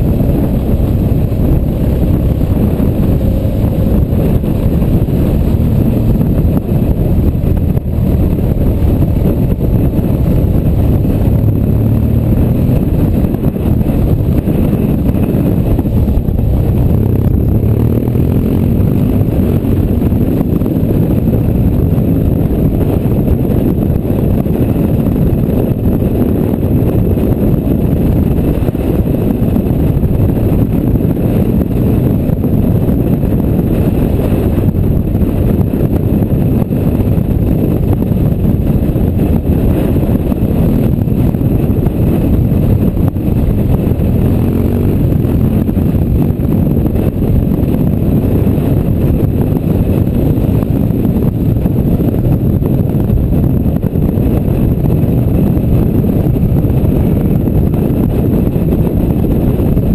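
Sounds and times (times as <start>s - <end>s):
motorcycle engine running: 0.0s - 59.9s
wind rushing on microphone: 0.0s - 59.9s.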